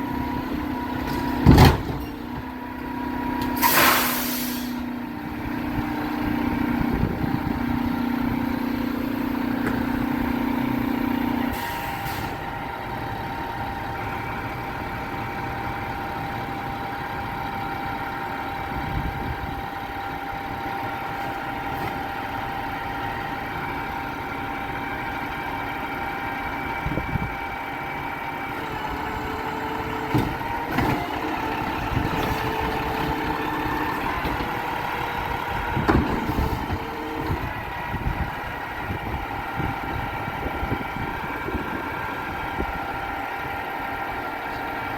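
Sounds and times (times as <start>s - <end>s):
truck engine idling with whine: 0.0s - 44.9s.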